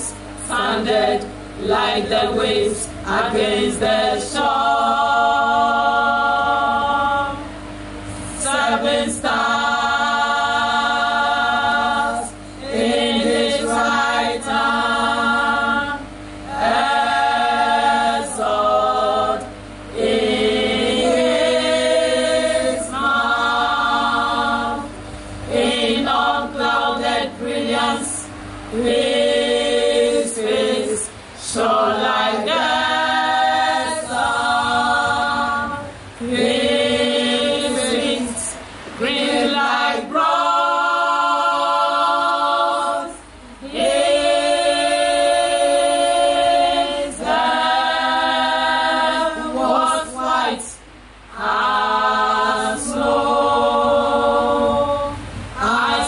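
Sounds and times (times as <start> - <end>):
choir singing: 0.0 - 7.5, 8.4 - 24.9, 25.5 - 56.0.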